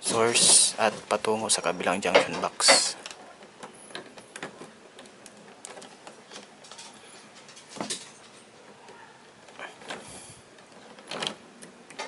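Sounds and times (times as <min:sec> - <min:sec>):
wire rustling: 0:00.0 - 0:12.0.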